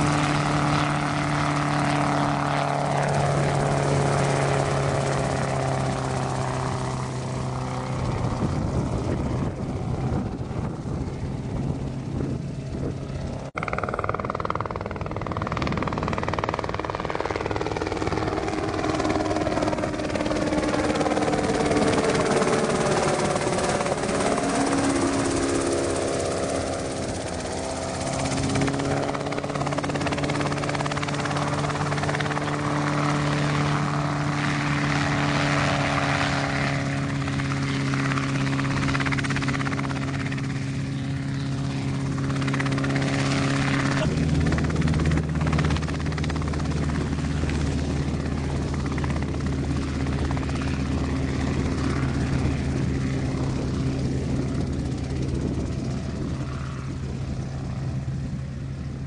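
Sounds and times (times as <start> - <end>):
helicopter flying: 0.0 - 59.0.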